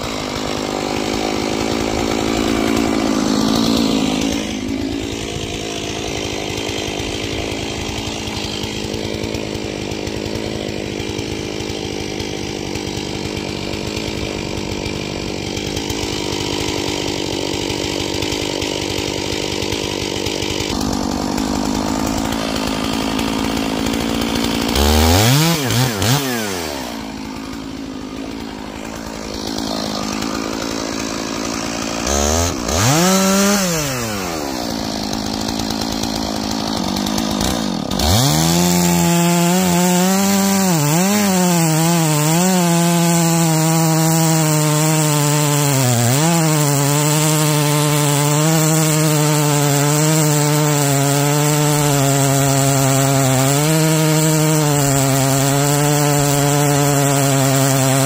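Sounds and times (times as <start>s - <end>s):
chainsaw revving while cutting wood: 0.0s - 58.0s.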